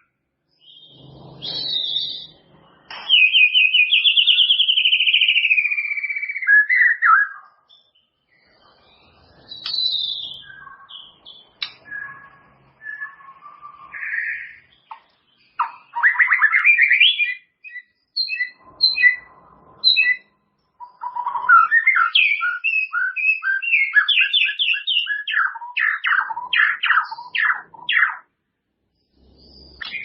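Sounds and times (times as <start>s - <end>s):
songbird singing whistles: 0.0s - 28.3s, 29.0s - 30.0s.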